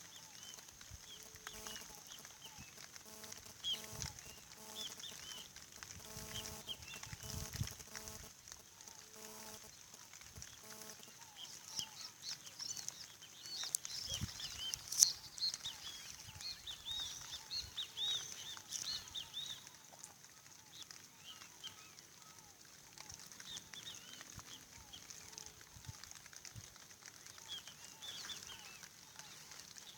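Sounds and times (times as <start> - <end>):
small birds chirping: 0.0 - 29.9
steady high hiss: 0.0 - 29.9.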